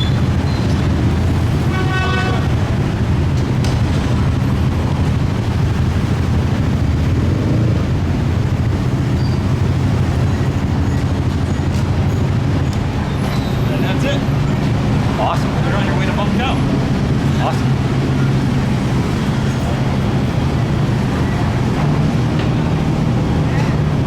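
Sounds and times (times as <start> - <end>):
motor engines idling: 0.0 - 24.0.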